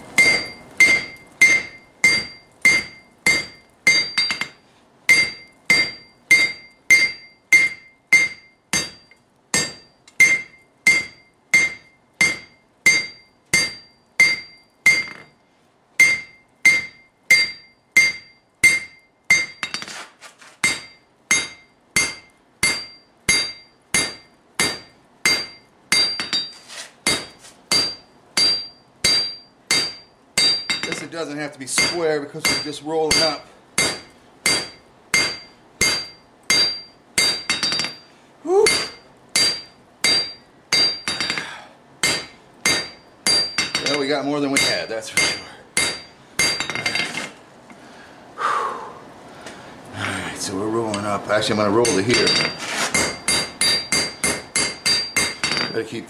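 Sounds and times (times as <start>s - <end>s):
hammer striking steel on anvil: 0.2s - 15.4s, 16.0s - 20.0s, 20.6s - 31.1s, 31.7s - 38.0s, 38.6s - 47.4s, 51.8s - 55.8s.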